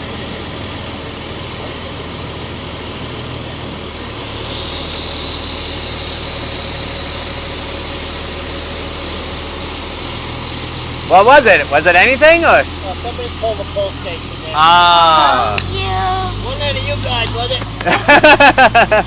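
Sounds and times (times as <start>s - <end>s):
steady high-pitched whine: 0.0s - 17.6s
fire truck engine idling: 0.0s - 19.0s.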